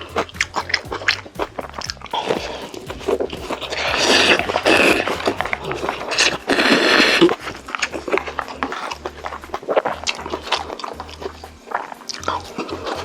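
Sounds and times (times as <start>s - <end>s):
wet chewing clicks: 0.0s - 13.0s.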